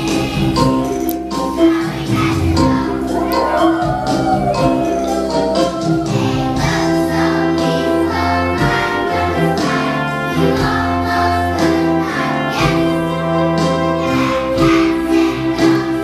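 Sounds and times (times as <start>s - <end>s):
children singing along to a song: 0.0s - 16.0s.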